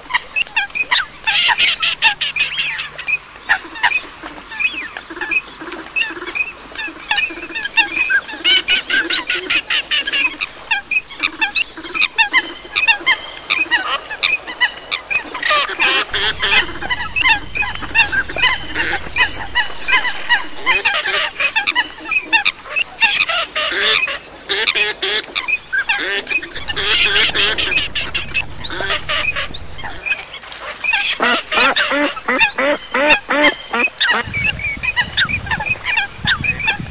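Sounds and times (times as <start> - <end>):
low repeated bird calls: 0.0 - 36.9.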